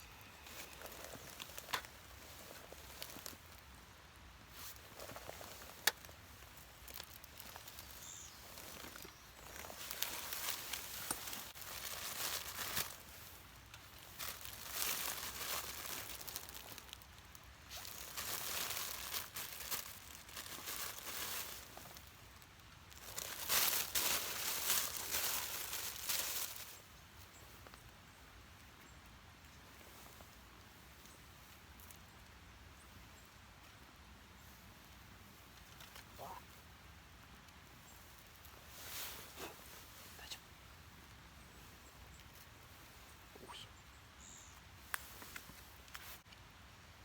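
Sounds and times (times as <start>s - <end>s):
rustling and crinkling: 0.0s - 28.0s, 33.6s - 36.7s, 37.3s - 43.5s, 44.4s - 46.5s.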